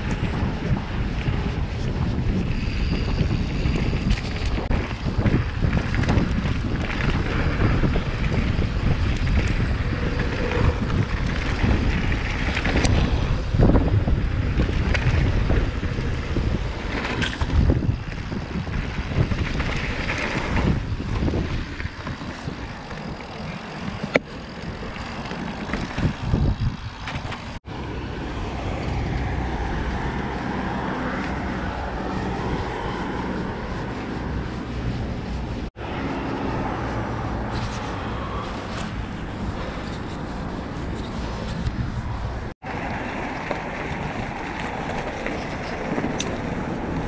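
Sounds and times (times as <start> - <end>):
bike knocking and rattling: 0.0 - 47.0
tyres rumbling on trail: 0.0 - 47.0
wind buffeting microphone: 0.0 - 47.0.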